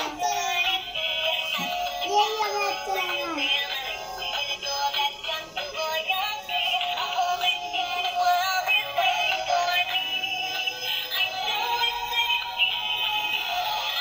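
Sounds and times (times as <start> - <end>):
synthesized singing: 0.0 - 14.0.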